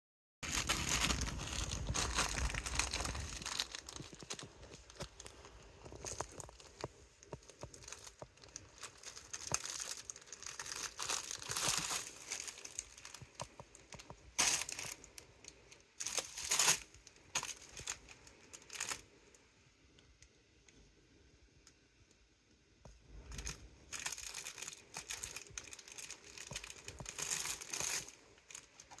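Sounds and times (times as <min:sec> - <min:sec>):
plastic packaging crinkling: 0:00.4 - 0:19.0, 0:23.2 - 0:29.0.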